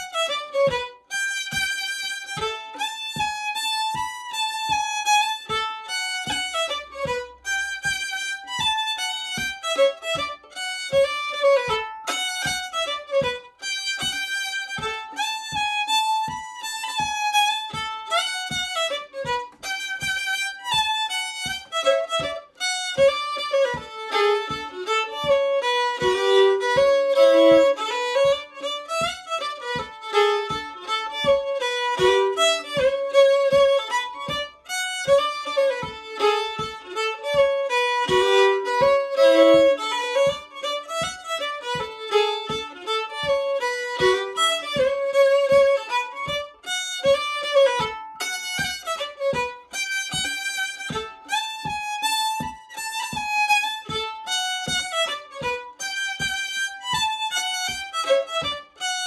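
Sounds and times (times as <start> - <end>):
foot tapping time: 0.0 - 59.0
solo fiddle playing: 0.0 - 59.0.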